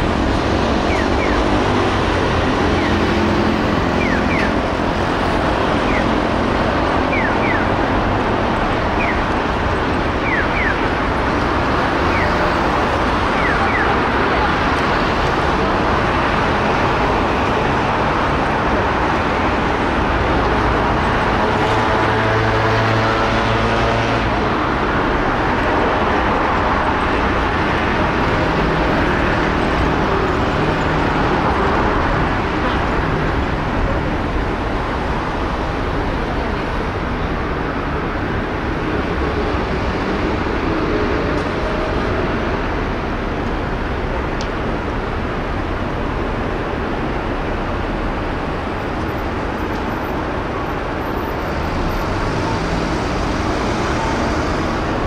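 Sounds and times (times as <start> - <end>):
road traffic running past: 0.0 - 55.0.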